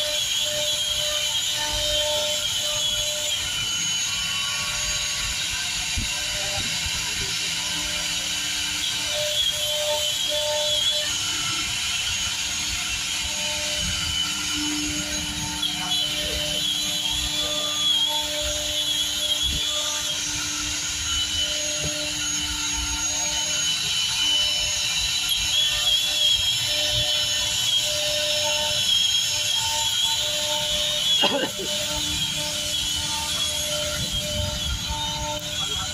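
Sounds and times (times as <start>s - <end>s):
cnc router spindle whine: 0.0s - 35.9s.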